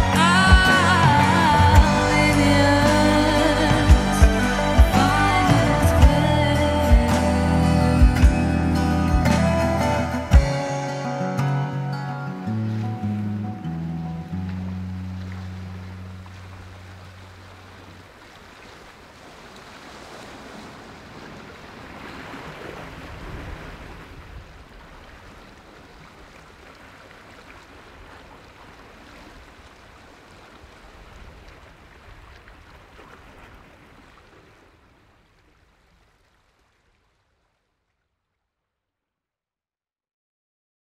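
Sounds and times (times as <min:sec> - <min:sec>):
small waves lapping: 0:00.0 - 0:10.3, 0:12.3 - 0:38.3.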